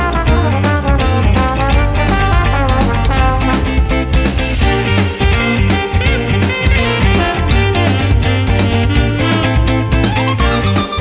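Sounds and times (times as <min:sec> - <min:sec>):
upbeat music with guitar: 0:00.0 - 0:11.0.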